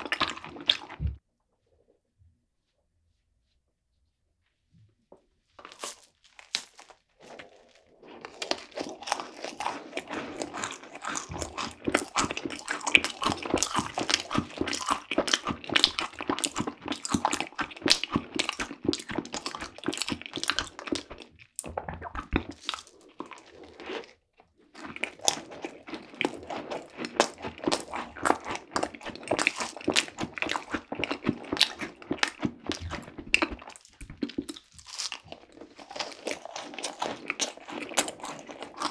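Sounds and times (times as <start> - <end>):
crunchy biting and chewing: 0.0 - 1.0, 5.6 - 38.9.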